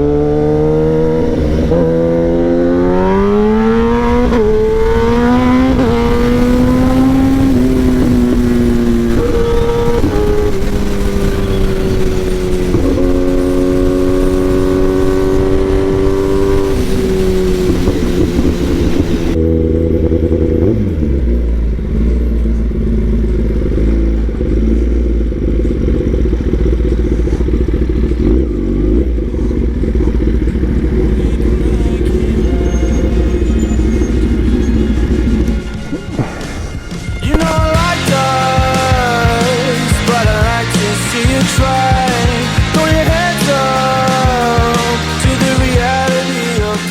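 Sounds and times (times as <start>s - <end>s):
motorcycle engine accelerating: 0.0s - 46.9s
low rough engine rumble: 3.4s - 46.9s.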